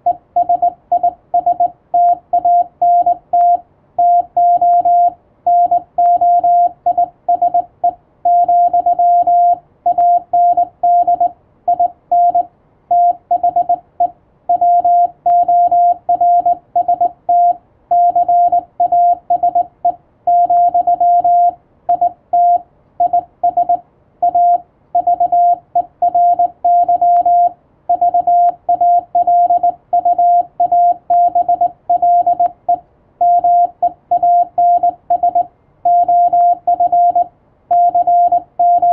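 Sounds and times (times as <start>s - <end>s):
morse code beeps: 0.0s - 38.9s.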